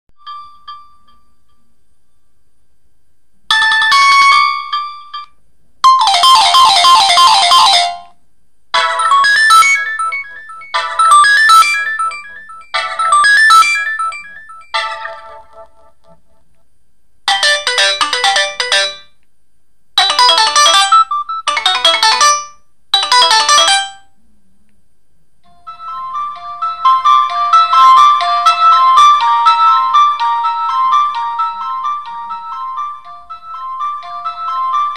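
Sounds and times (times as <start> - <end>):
phone ringtone melody: 0.2 - 1.6, 3.5 - 8.1, 8.7 - 16.0, 17.3 - 19.2, 20.0 - 24.1, 25.5 - 34.9.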